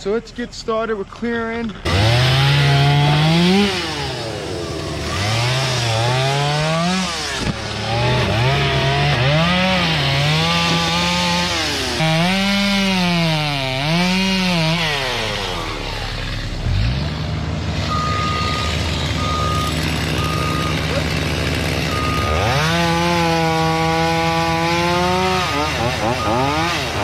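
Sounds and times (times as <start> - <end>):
chainsaw cutting wood: 1.8 - 27.0.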